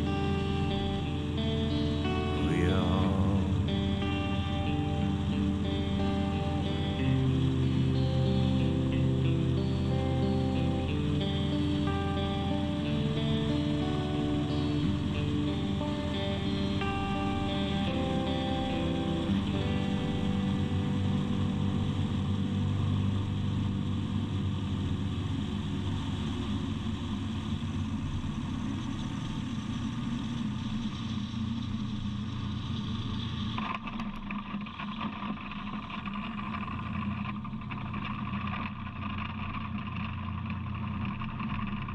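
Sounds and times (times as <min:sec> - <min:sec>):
light aircraft engine and propeller: 0:00.0 - 0:41.9.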